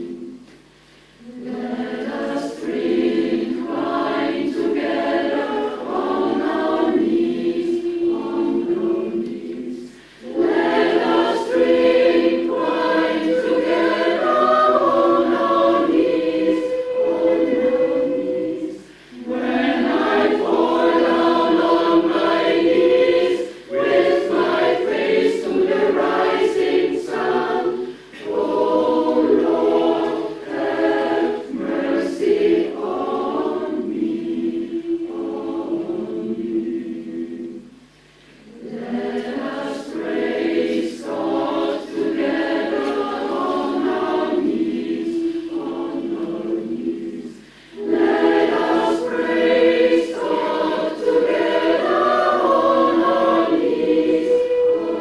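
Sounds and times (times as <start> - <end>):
mixed choir singing in harmony: 0.0 - 0.5, 1.2 - 55.0.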